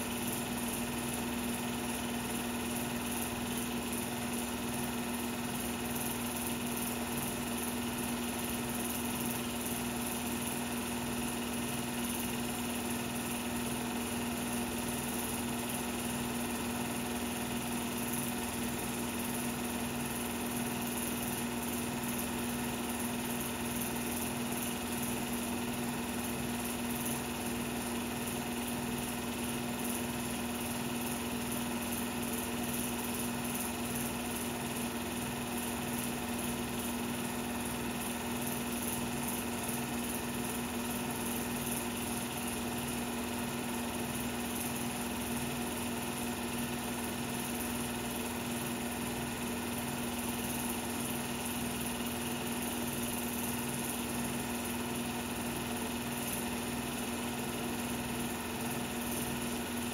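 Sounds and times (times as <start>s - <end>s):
film projector running: 0.0s - 59.9s.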